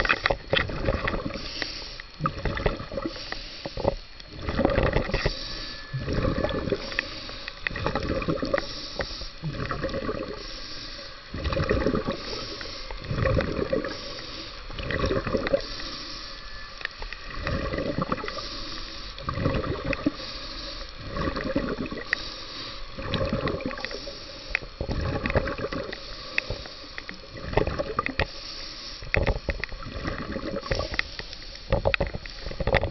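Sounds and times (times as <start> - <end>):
exhaled bubbles gurgling: 0.0 - 32.9
underwater breathing: 0.0 - 32.9.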